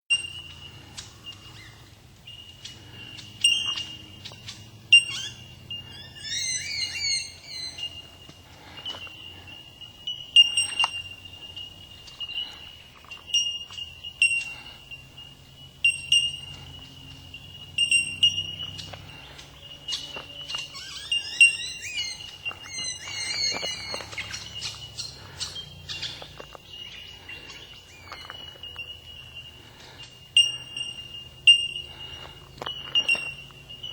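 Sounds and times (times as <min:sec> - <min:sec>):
bellbirds bell-like ringing calls: 0:00.1 - 0:33.9
quick warbling birdsong: 0:00.1 - 0:33.9.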